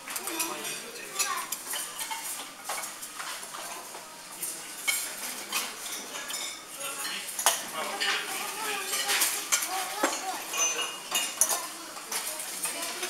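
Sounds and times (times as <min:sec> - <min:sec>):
cutlery clinking on plates: 0:00.0 - 0:13.0.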